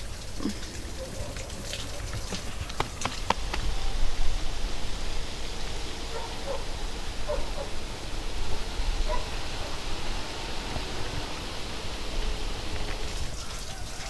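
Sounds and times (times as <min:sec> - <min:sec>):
steady hiss: 0:00.0 - 0:14.0
wind buffeting microphone: 0:01.5 - 0:13.6.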